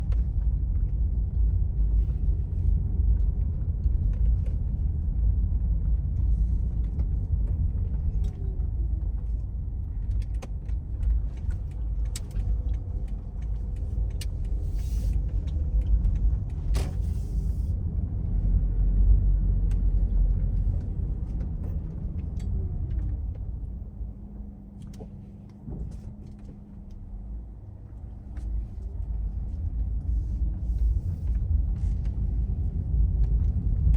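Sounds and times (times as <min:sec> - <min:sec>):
car engine and tyres rumbling: 0:00.0 - 0:33.9.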